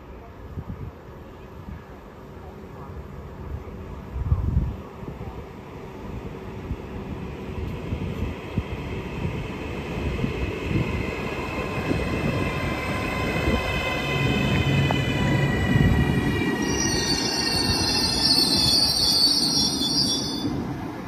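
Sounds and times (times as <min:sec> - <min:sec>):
electric train rumble: 0:00.5 - 0:21.0.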